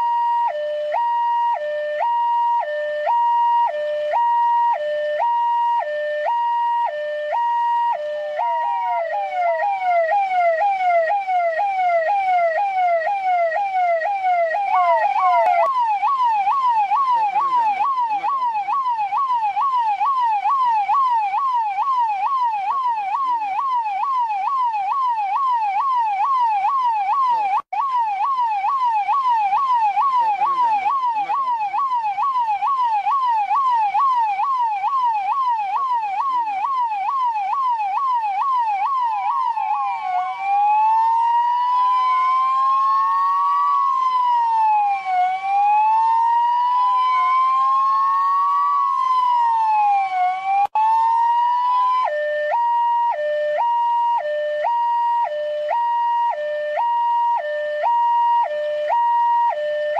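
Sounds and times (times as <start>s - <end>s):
police siren yelping: 0.0s - 59.9s.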